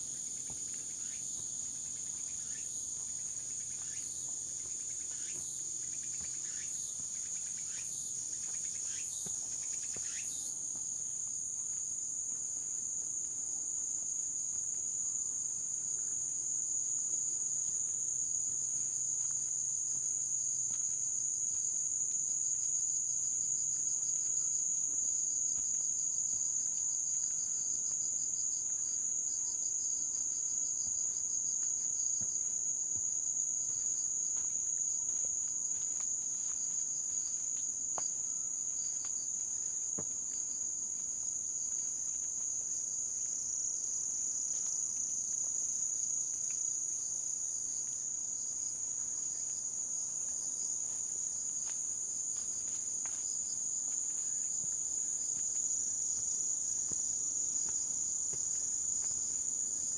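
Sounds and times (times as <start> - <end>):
footsteps on forest path: 0.3 - 14.8, 17.6 - 59.9.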